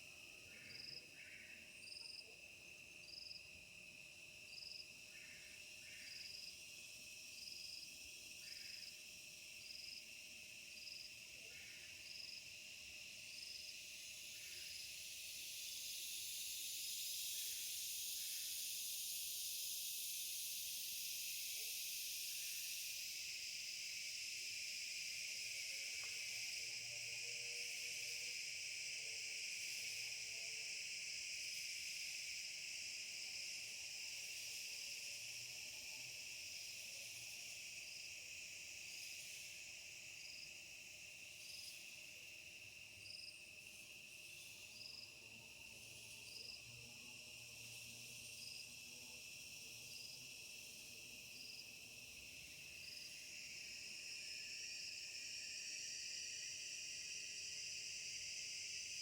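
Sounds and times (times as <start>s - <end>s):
insects buzzing: 0.0s - 59.0s
short insect chirp: 0.0s - 59.0s.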